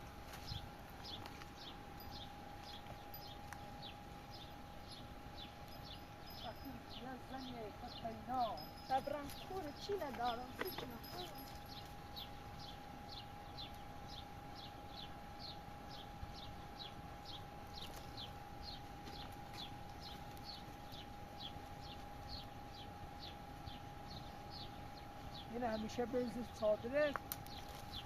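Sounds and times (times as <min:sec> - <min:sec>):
bird chirping: 0:00.0 - 0:28.0
faint steady tone: 0:00.0 - 0:28.0.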